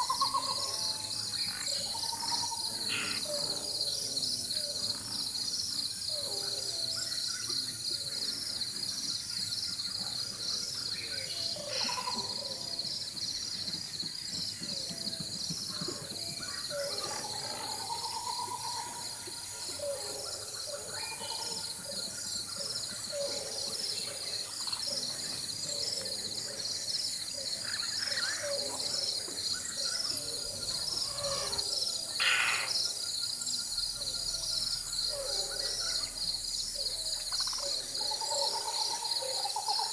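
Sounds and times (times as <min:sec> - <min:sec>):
high insect drone: 0:00.0 - 0:39.9
pulsing insect chorus: 0:00.0 - 0:39.9.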